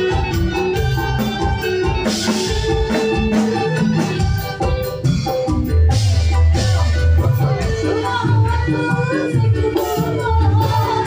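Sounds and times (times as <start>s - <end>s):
keyboard melody: 0.0s - 11.0s
quick percussion: 0.0s - 11.0s.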